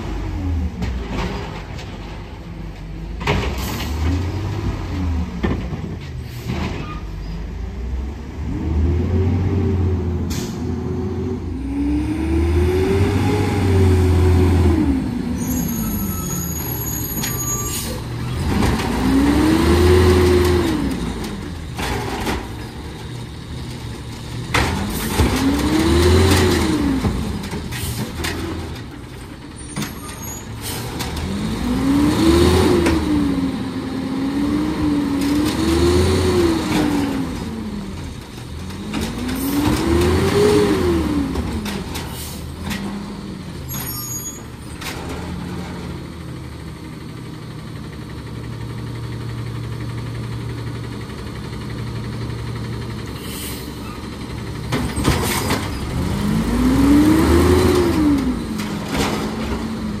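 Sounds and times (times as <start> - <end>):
garbage truck engine revving: 7.8 - 60.0.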